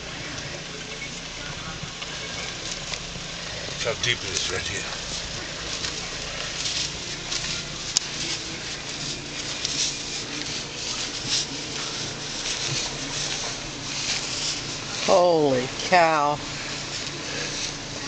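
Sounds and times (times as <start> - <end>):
footsteps crunching in snow: 1.2 - 18.0.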